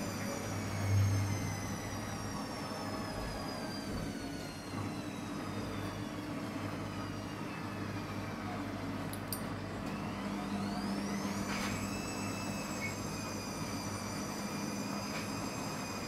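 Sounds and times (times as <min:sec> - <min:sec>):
washing machine motor whining: 0:00.0 - 0:16.0.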